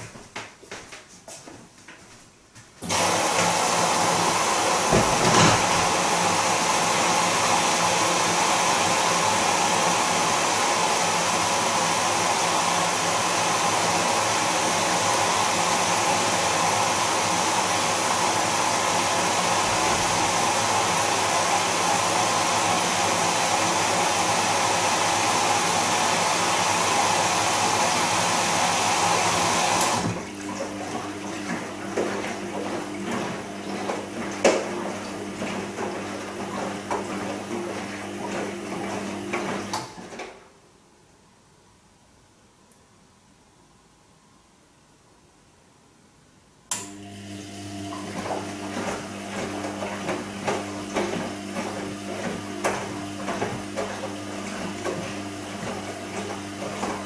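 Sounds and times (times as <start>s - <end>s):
washing machine filling with water: 2.8s - 40.5s, 46.8s - 57.0s.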